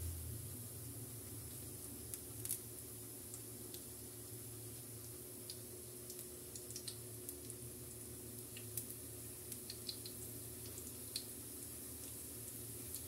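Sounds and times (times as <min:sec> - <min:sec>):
noodles crackling in a wok: 0:00.8 - 0:13.0.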